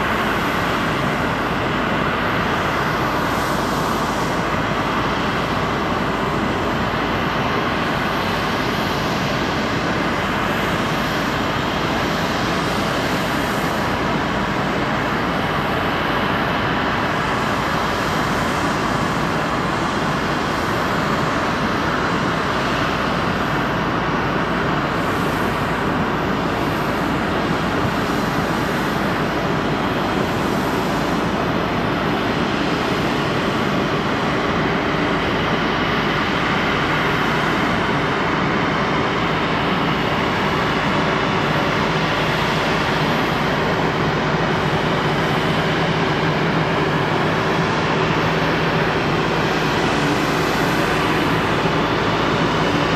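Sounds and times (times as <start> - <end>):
jet engines idling: 0.0 - 52.9
low drone: 0.0 - 52.9.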